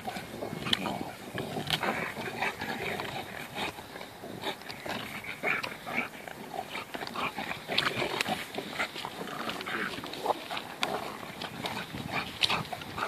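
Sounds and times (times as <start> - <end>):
dogs play-growling: 0.0 - 13.0.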